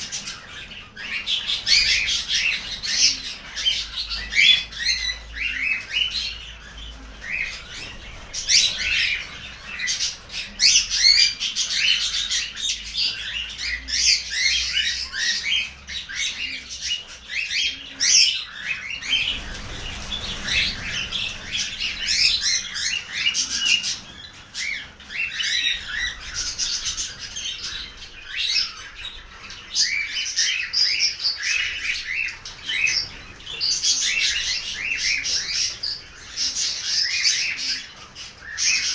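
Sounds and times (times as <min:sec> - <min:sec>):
cockatiels squawking and chirping: 0:00.0 - 0:38.9.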